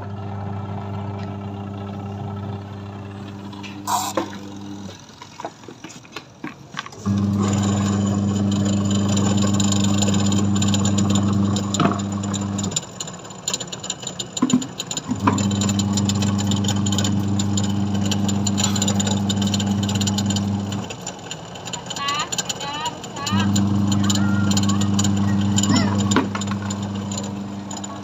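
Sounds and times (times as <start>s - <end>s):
washing machine motor humming: 0.0s - 5.5s, 6.9s - 28.0s.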